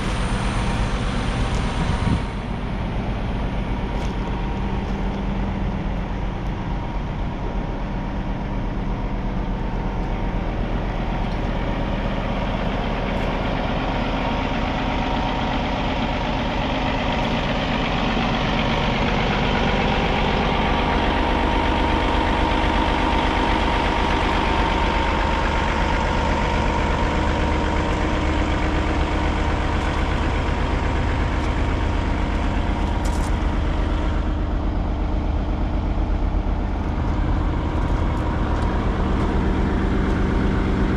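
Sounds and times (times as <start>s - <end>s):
excavator diesel engine idling: 0.0s - 40.9s.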